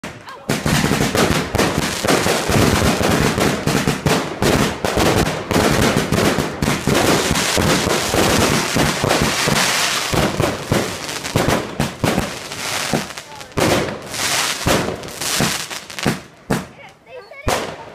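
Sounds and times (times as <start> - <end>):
fireworks bangs and crackling: 0.0 - 17.9.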